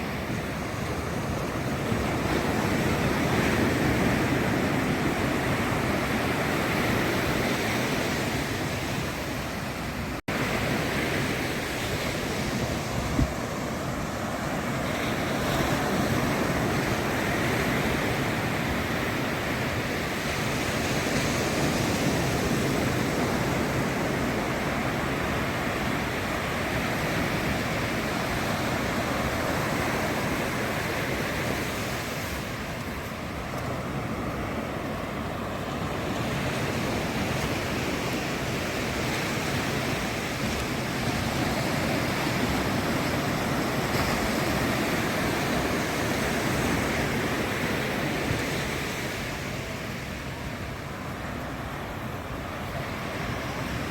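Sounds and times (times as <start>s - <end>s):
ocean surf breaking: 0.0s - 53.9s
wind on microphone: 0.0s - 53.9s.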